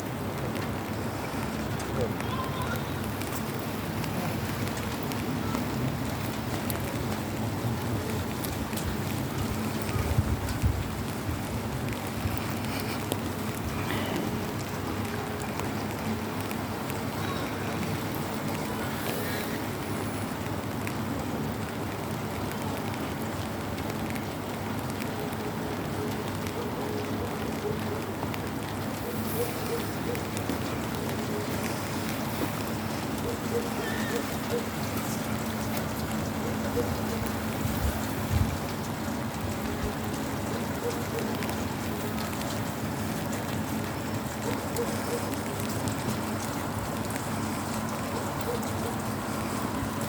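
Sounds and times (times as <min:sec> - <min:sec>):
rain drumming on an umbrella: 0:00.0 - 0:50.0.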